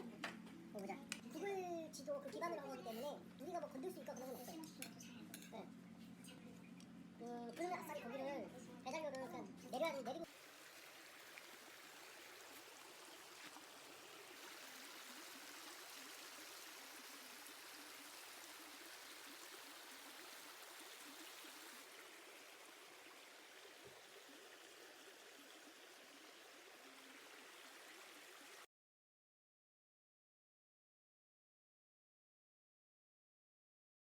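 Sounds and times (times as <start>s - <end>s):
faint flowing stream: 0.0s - 28.7s.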